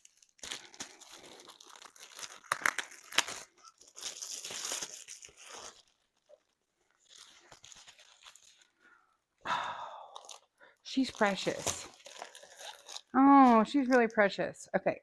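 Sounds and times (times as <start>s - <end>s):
plastic packaging crinkling: 0.0s - 9.1s, 10.1s - 14.3s.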